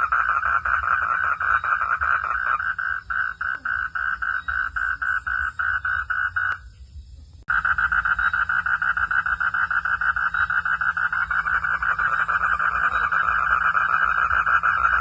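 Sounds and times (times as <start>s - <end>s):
frog calling in a pulsed trill: 0.0s - 6.7s, 7.5s - 15.0s.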